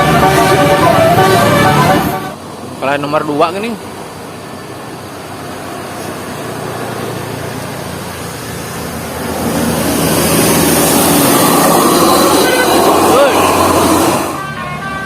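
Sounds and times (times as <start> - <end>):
bus engine approaching: 0.0 - 15.0
road and wind noise: 0.0 - 15.0.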